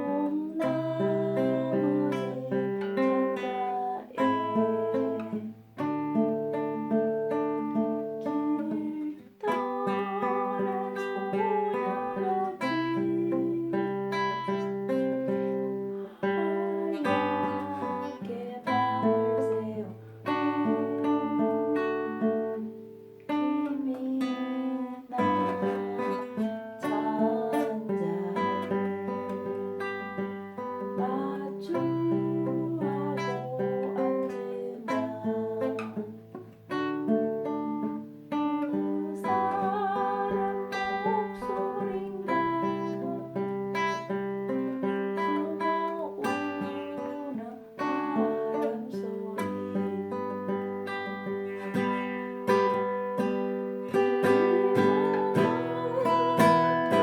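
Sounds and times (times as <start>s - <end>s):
acoustic guitar slow melody: 0.0s - 57.0s.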